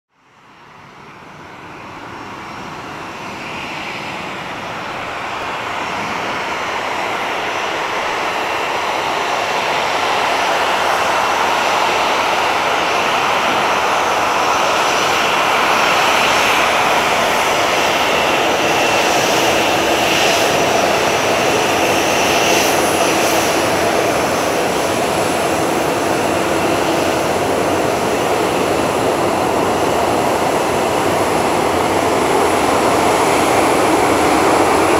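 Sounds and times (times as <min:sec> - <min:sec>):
jet engines at taxi power: 0:00.1 - 0:34.9.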